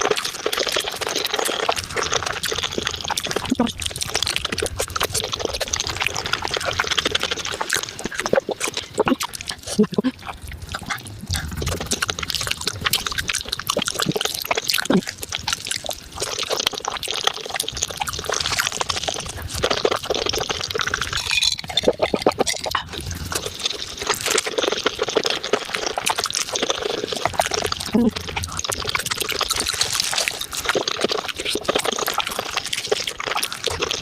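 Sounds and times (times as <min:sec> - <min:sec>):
wet chewing and slurping: 0:00.0 - 0:34.0.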